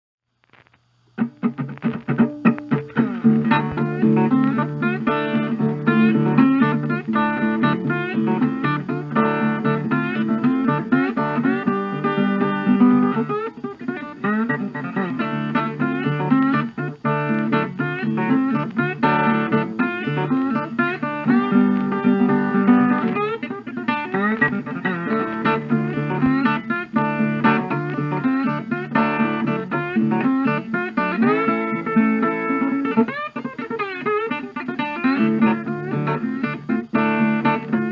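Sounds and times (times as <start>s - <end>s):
bluesy guitar playing: 0.5s - 37.9s.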